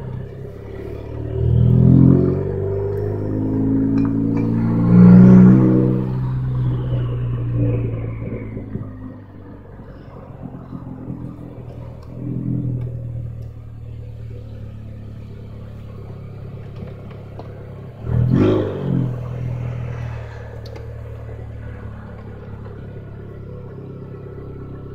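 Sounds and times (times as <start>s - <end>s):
car exhaust revving: 0.0s - 24.9s.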